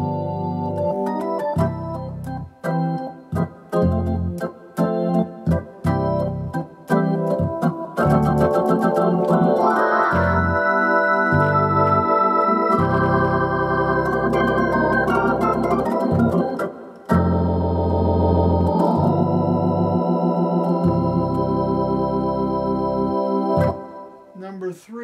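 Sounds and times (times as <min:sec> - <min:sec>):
organ chords over bass notes: 0:00.0 - 0:24.3.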